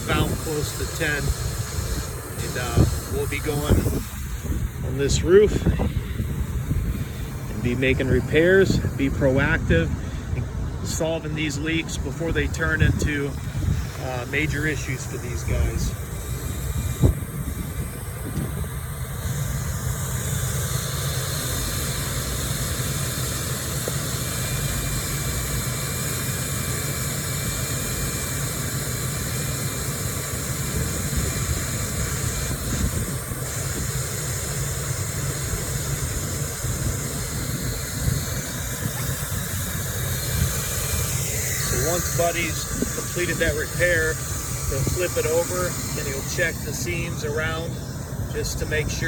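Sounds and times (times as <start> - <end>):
hot-air welder blower hissing: 0.0 - 49.0
thin steady whine: 0.0 - 49.0.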